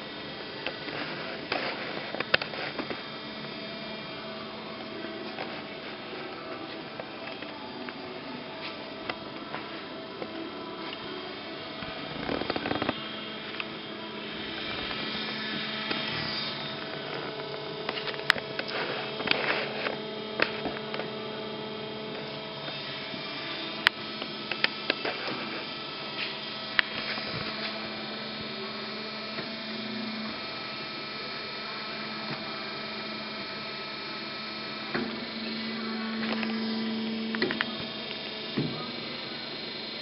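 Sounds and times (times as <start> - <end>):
bandsaw humming: 0.0 - 40.0.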